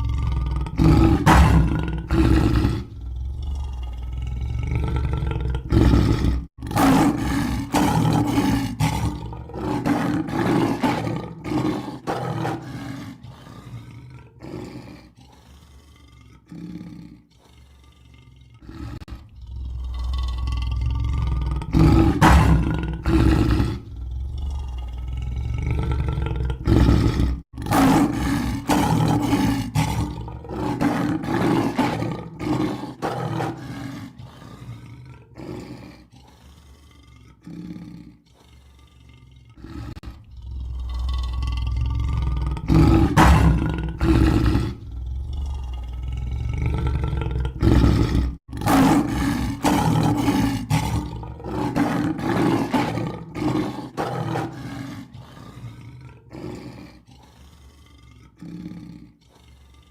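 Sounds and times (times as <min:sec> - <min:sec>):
lion roaring and growling: 0:00.0 - 0:59.9.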